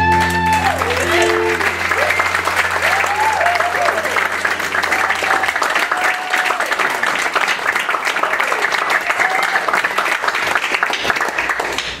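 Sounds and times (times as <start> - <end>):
crowd whooping: 0.0 - 10.0
audience applauding: 0.0 - 12.0.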